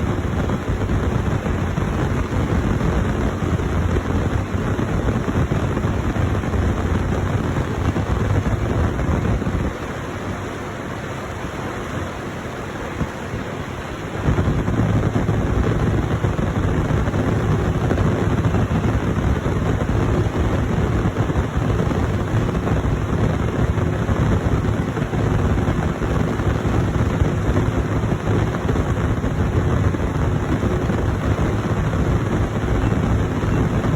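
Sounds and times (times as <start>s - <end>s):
diesel machinery engine drone: 0.0s - 33.9s
wind noise on microphone: 0.0s - 33.9s.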